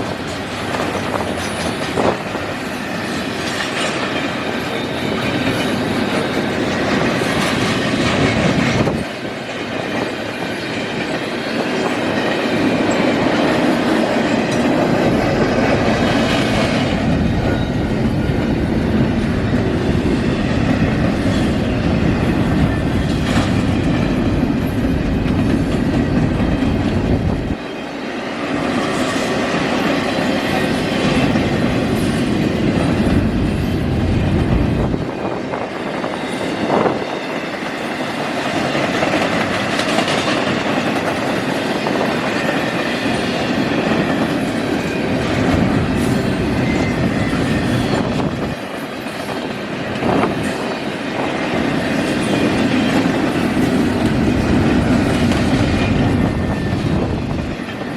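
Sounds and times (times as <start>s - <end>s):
wheels clicking over rail joints: 0.0s - 27.6s, 38.2s - 57.9s
freight train rumbling past: 0.0s - 57.9s.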